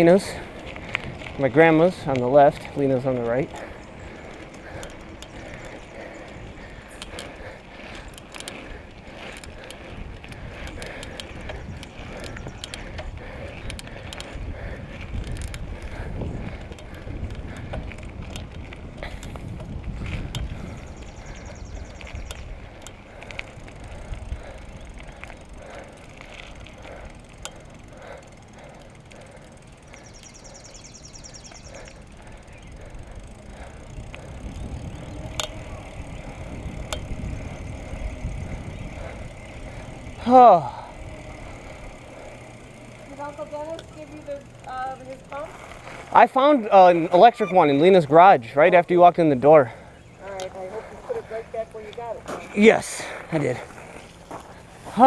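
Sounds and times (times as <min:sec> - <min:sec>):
bicycle freewheel ticking: 0:00.0 - 0:55.0
low rumble of riding: 0:00.0 - 0:55.0.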